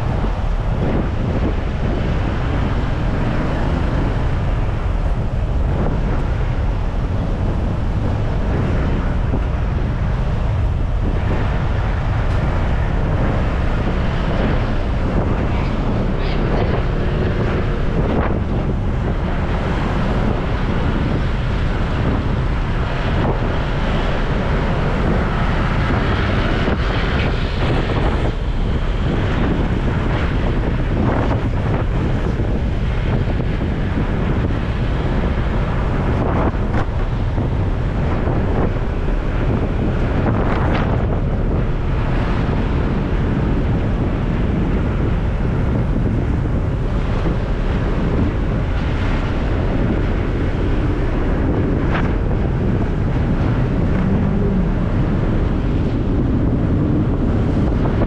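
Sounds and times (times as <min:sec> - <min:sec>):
traffic: 0:00.0 - 0:58.0
wind buffeting microphone: 0:00.0 - 0:58.0.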